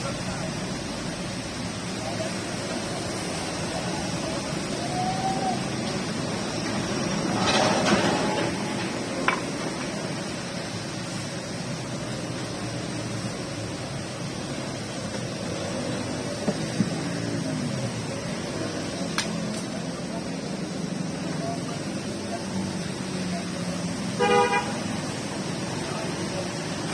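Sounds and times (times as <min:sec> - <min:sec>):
steady rain falling: 0:00.0 - 0:19.2, 0:19.8 - 0:26.9.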